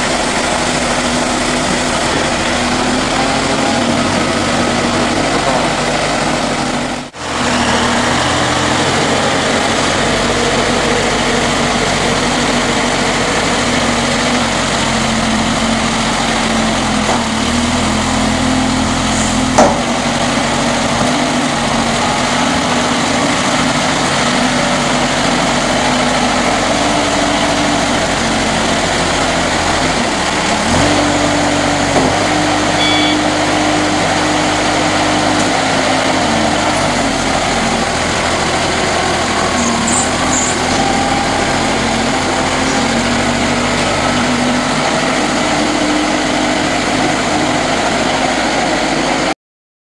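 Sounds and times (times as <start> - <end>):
forklift engine running: 0.0 - 49.4.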